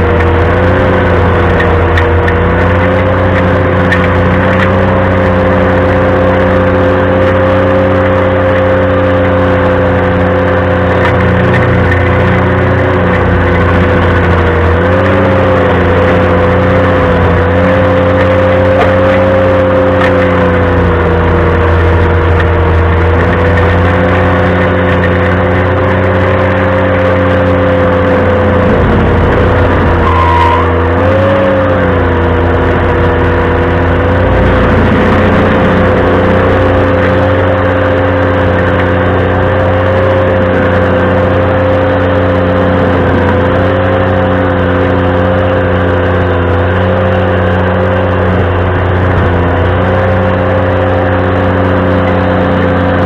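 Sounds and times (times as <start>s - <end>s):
tractor running stump grinder: 0.0s - 53.0s.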